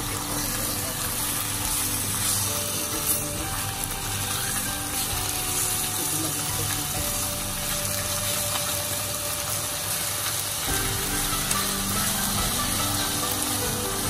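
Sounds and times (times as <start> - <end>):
background music: 0.0 - 14.0
meat sizzling in a pan: 0.0 - 14.0.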